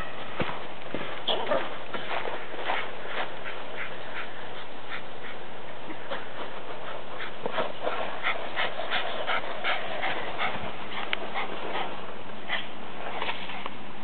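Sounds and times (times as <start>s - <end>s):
small dog panting: 1.3s - 12.8s.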